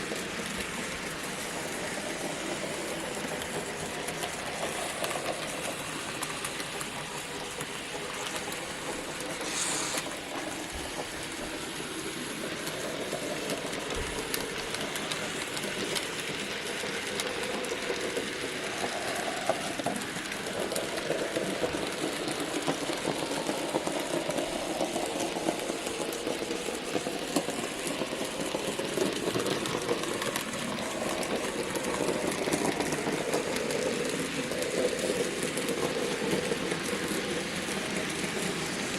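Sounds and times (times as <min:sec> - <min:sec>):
electric model train motors humming: 0:00.0 - 0:38.9
wheels clicking over track: 0:00.0 - 0:38.9.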